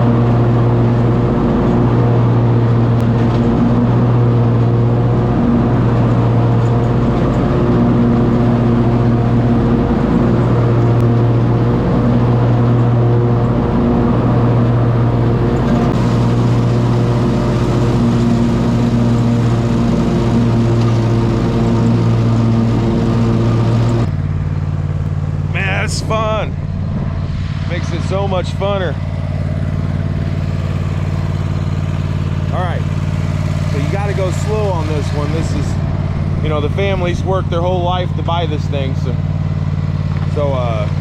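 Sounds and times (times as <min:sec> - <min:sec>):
riding lawn mower engine running: 0:00.0 - 0:41.0.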